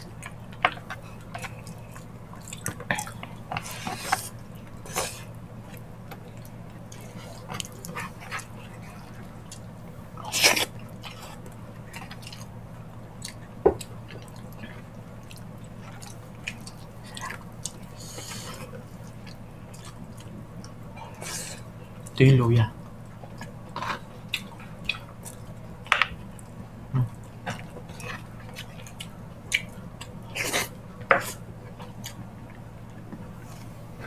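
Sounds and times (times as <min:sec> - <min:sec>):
wet chewing and smacking: 0:00.1 - 0:22.2, 0:22.8 - 0:33.7.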